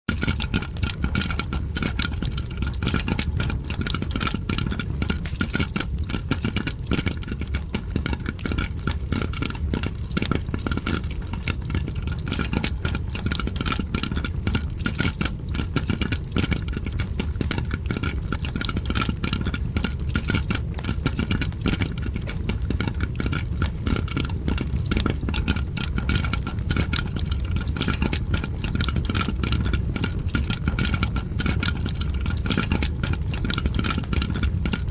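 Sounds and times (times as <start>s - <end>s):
popcorn popping: 0.1s - 34.9s.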